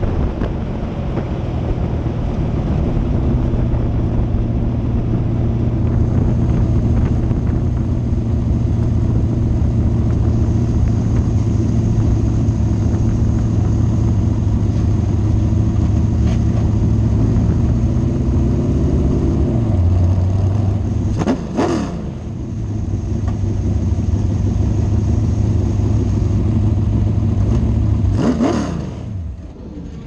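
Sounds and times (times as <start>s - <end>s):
race car engine revving: 1.8s - 30.0s.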